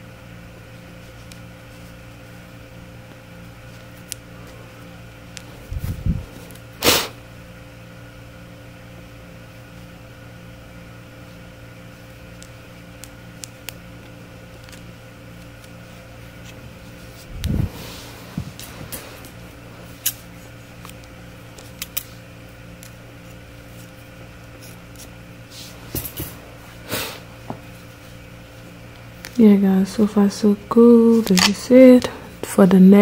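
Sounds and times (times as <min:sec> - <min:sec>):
appliance humming: 0:00.0 - 0:33.0.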